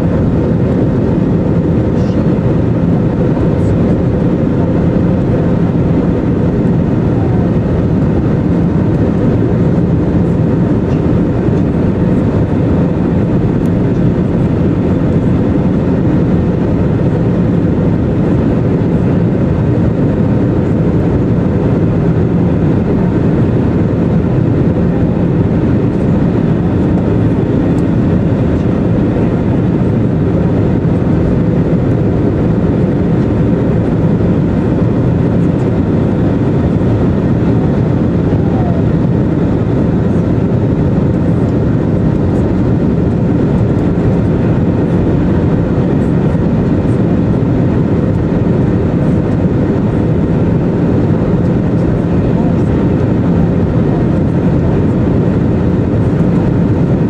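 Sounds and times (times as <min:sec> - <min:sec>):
airplane cabin airflow and engine noise: 0:00.0 - 0:57.0.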